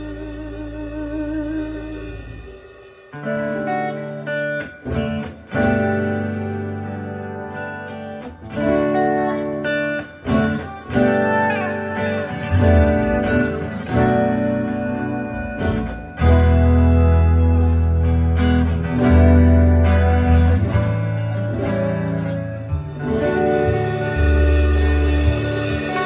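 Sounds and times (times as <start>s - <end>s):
guitar chords strummed: 0.0s - 26.0s.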